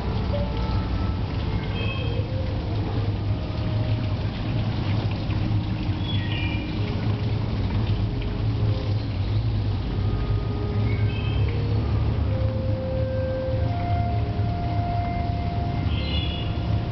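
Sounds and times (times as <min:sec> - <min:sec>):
rushing water: 0:00.0 - 0:16.9.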